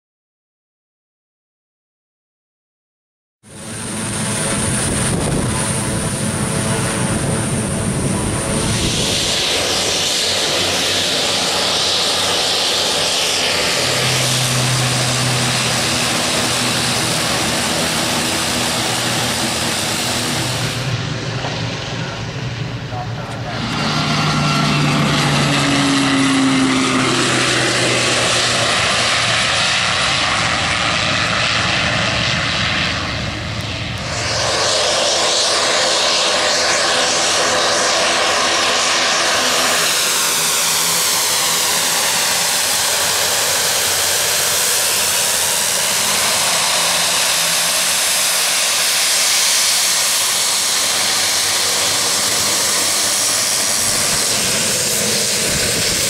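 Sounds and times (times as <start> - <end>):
turbine whine and propeller noise: 3.4 - 56.0
turboprop aircraft taking off: 3.4 - 56.0.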